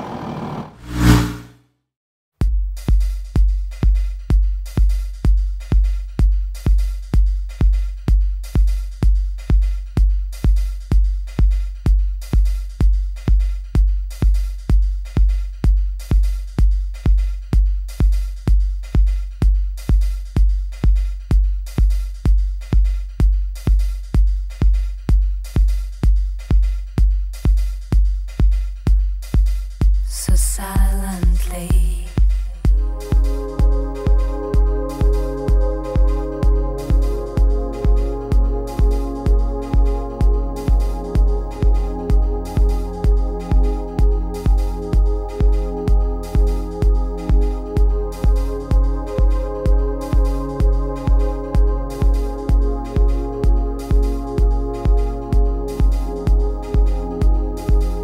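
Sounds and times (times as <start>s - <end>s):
electronic kick-drum beat: 2.4s - 58.0s.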